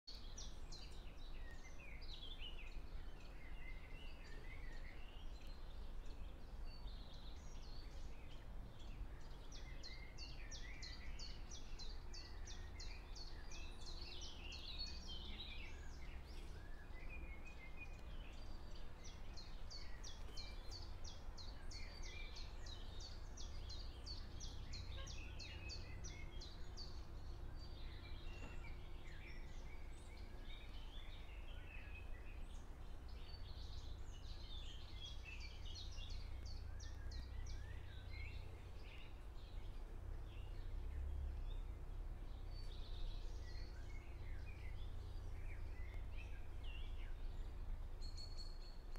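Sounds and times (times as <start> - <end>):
songbirds singing and chirping: 0.0 - 48.9.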